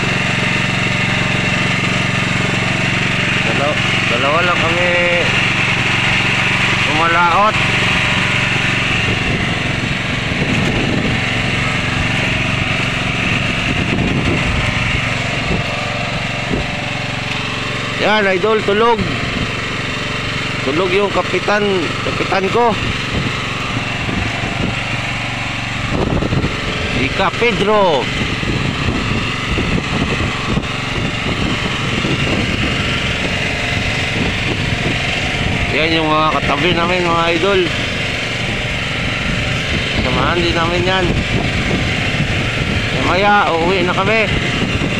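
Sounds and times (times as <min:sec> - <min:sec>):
small engine running: 0:00.0 - 0:44.9.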